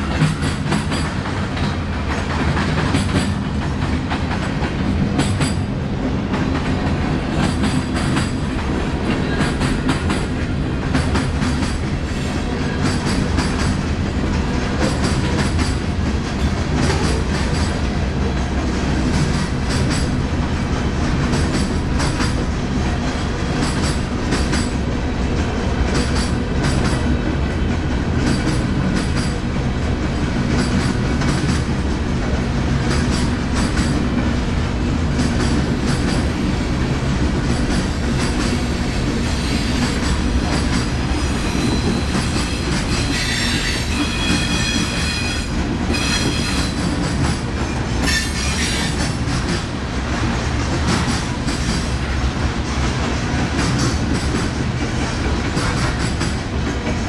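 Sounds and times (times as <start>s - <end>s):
train cars rumbling: 0.0s - 57.0s.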